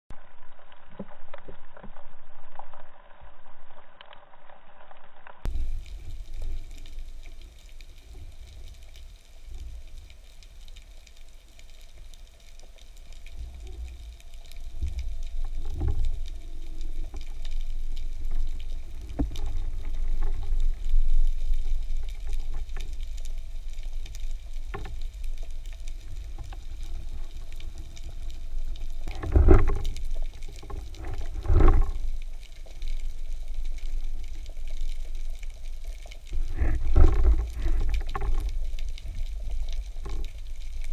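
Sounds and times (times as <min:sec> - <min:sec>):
muffled underwater rumble: 0:00.1 - 0:40.9.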